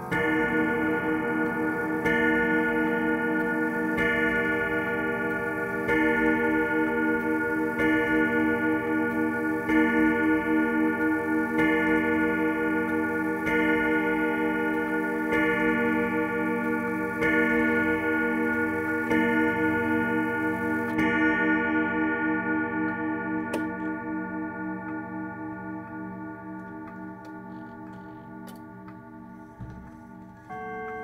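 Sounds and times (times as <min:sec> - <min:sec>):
clock chime rods struck: 0:00.0 - 0:31.0.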